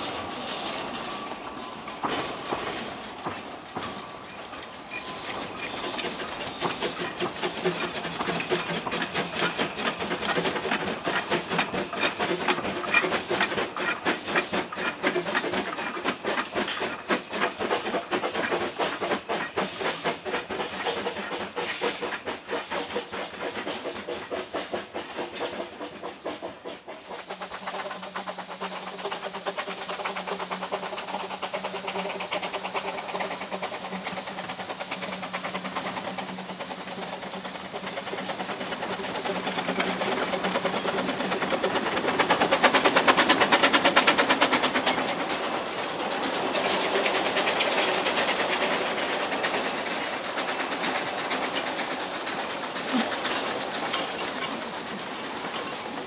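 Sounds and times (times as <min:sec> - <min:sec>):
steam hiss: 0:00.0 - 0:56.0
steam locomotive chuffing: 0:00.0 - 0:56.0
train wheels clattering on rails: 0:00.0 - 0:56.0.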